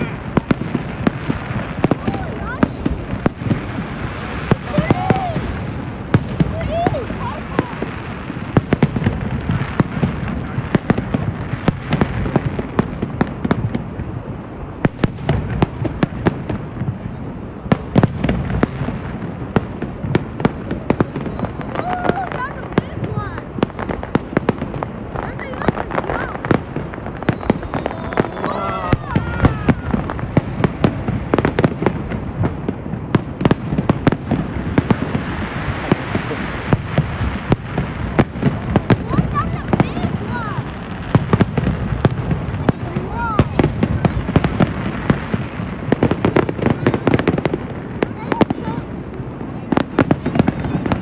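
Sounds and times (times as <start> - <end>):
distant explosions rumbling: 0.0 - 51.0
fireworks bangs and pops: 0.0 - 51.0
fireworks crackling: 0.0 - 51.0.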